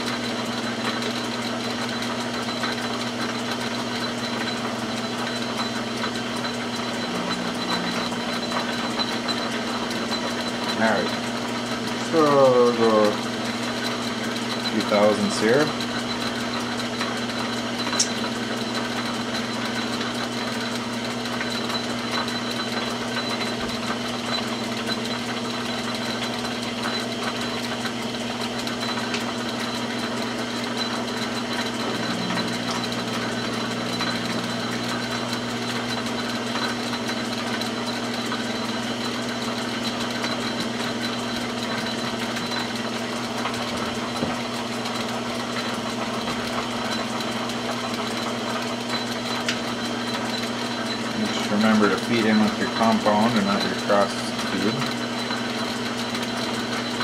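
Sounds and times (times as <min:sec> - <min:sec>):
metal lathe motor hum: 0:00.0 - 0:57.0.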